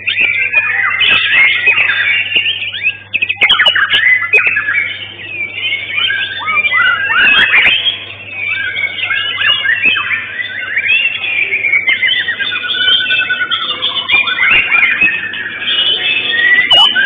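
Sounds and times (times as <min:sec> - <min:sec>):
bird singing whistles: 0:00.0 - 0:17.0.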